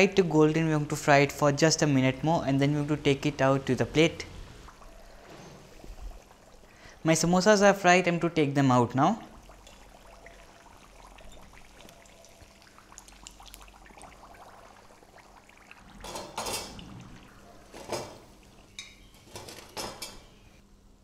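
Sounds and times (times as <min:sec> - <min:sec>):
frying oil crackling: 0:00.0 - 0:20.2.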